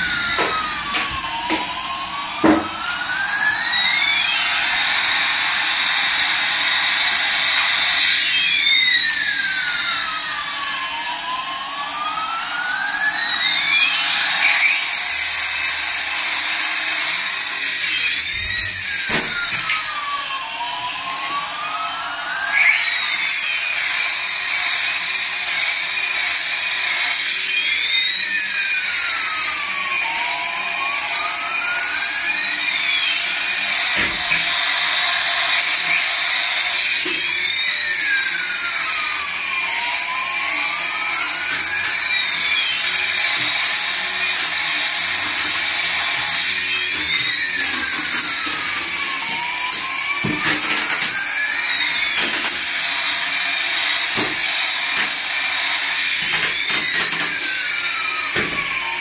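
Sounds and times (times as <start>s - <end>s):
electronic siren-like toy tone: 0.0s - 59.0s.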